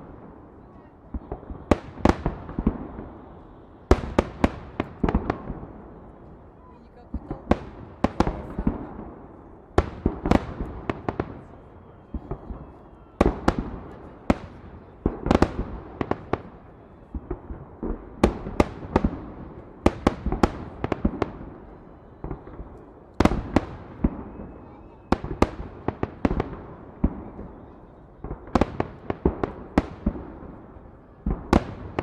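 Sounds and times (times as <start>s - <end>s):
fireworks bursting with echo: 0.0s - 32.0s.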